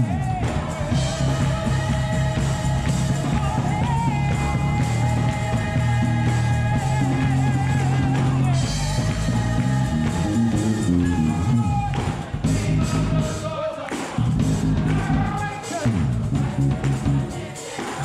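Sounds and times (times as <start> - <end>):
electric bass low notes: 0.0 - 13.4, 14.2 - 17.3
sustained singing: 0.0 - 18.0.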